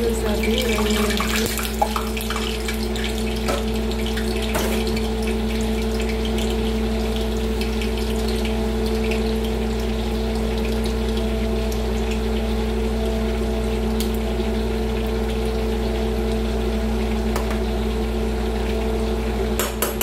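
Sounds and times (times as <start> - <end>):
broth simmering and bubbling: 0.0 - 19.8.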